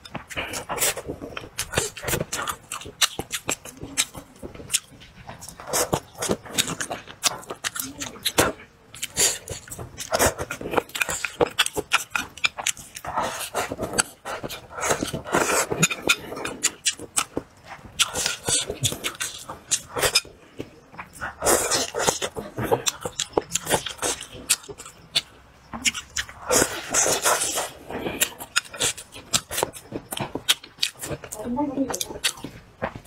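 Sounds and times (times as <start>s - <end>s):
man chewing food: 0.0s - 33.0s.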